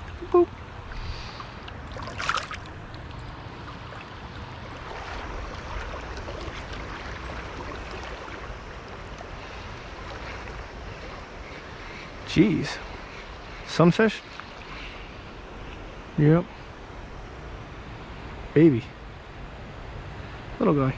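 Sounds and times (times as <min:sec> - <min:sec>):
creek water rushing: 0:00.0 - 0:18.5.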